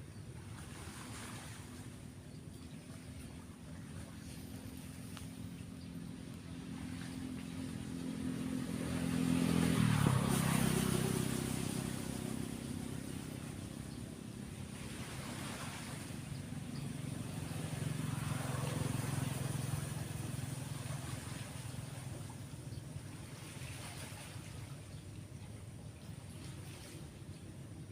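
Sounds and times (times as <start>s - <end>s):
waves breaking: 0.0s - 27.9s
second vehicle approaching: 0.9s - 27.9s
vehicle engine passing by: 2.8s - 27.4s.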